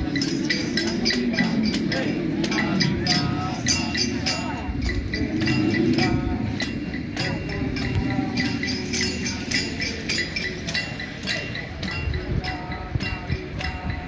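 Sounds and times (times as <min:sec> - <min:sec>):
jingling hand percussion: 0:00.0 - 0:14.0.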